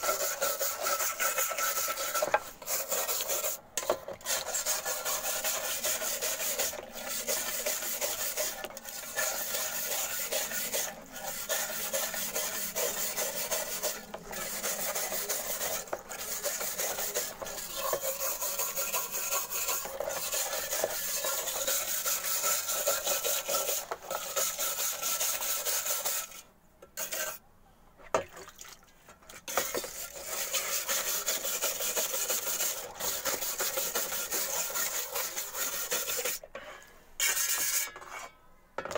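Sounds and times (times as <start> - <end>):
wet scrubbing of steel shovel: 0.0 - 26.4, 27.0 - 27.4, 29.2 - 38.4.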